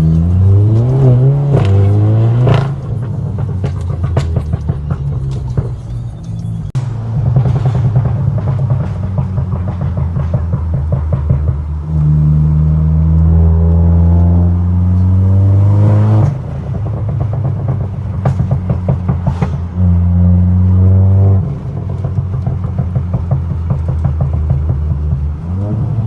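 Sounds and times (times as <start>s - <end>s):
car engine revving and idling: 0.0s - 26.0s
exhaust cracks: 0.0s - 26.0s.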